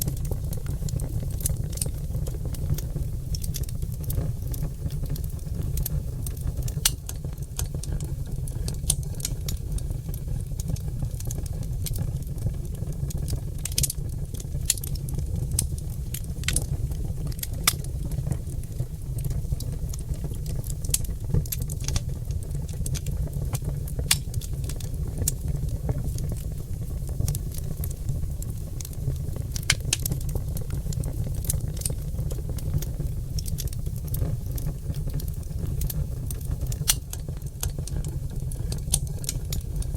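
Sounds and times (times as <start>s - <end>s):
logs crackling and popping in fireplace: 0.0s - 39.9s.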